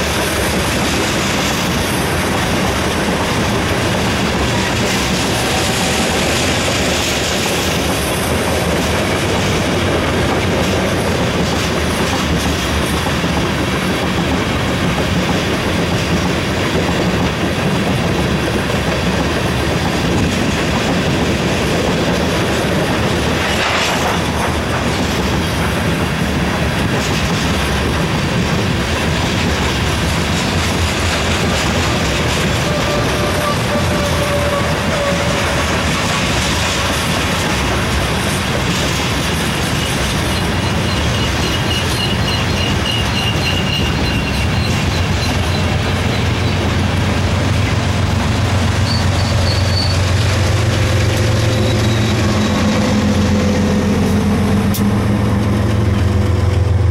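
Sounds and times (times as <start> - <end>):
clickety-clack over rail joints: 0.0 - 56.9
freight train wheels rumbling: 0.0 - 56.9.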